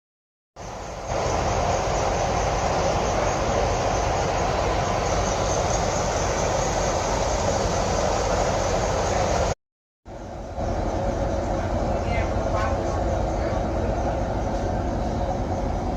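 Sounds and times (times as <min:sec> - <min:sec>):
bus engine rumble: 0:00.6 - 0:15.9.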